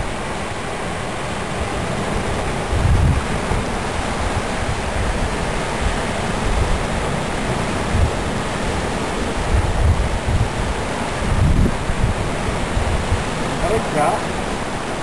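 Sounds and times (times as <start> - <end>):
sea water washing around rocks: 0.0 - 15.0
wind rumble on microphone: 0.0 - 15.0.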